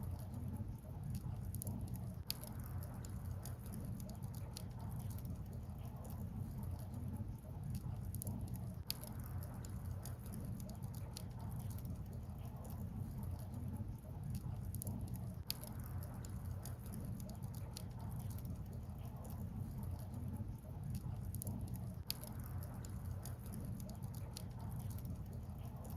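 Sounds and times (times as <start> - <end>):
low steady rumble: 0.0 - 25.9
wood fire crackling and popping: 0.0 - 25.9.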